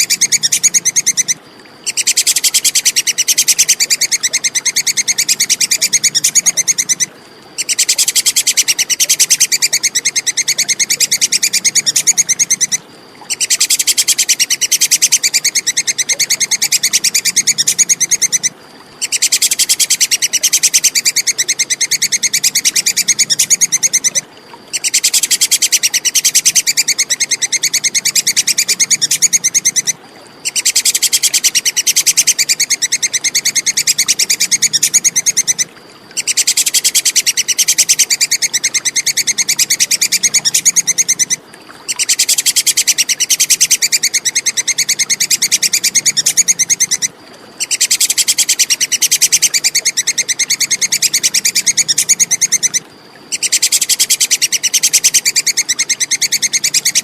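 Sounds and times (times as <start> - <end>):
squirrel chattering: 0.0 - 57.0.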